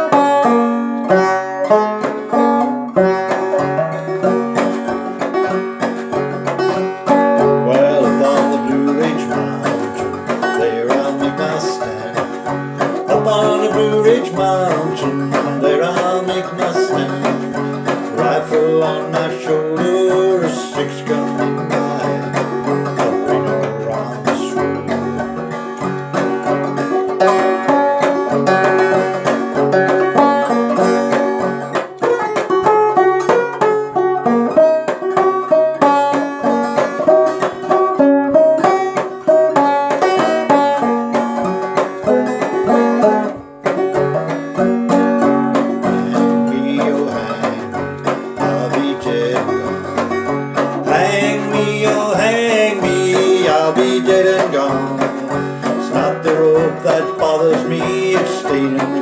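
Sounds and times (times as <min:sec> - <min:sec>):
banjo picking and strumming: 0:00.0 - 0:59.0.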